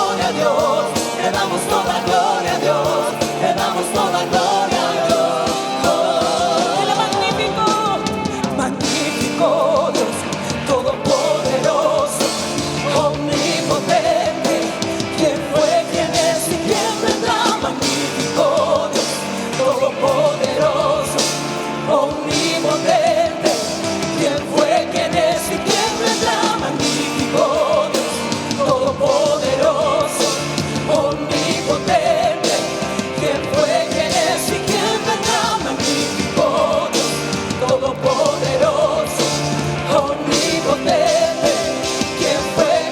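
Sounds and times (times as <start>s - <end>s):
person singing: 0.0s - 42.9s
rock band playing: 0.0s - 42.9s
steady drum beat: 0.0s - 42.9s.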